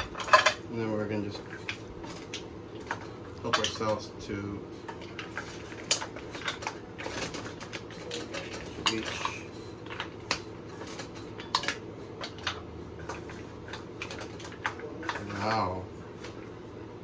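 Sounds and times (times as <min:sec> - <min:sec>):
shells and utensil clinking on dishes: 0:00.0 - 0:15.8.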